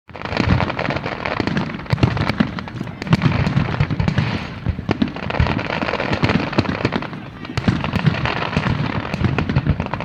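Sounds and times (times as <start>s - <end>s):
fireworks bangs and crackling: 0.1s - 10.0s.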